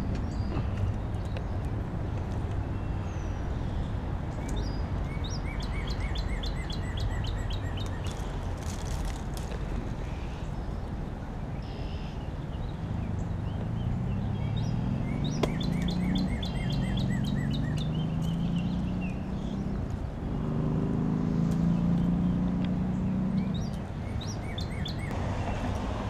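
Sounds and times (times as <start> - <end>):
passing road traffic hum: 0.0 - 26.0
songbird chirping: 0.0 - 26.0.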